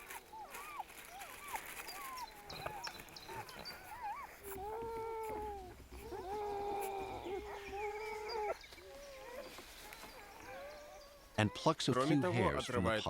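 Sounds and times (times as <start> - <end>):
wolf pups whining: 0.0 - 13.0.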